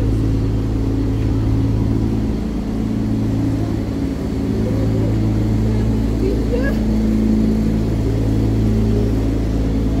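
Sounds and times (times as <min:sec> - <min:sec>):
lorry engine idling: 0:00.0 - 0:10.0.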